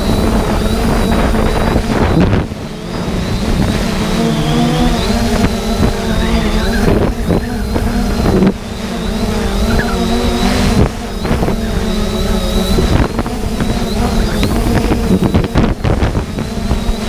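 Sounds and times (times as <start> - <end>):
drone propellers whining: 0.0 - 17.0
wind buffeting microphone: 0.0 - 17.0.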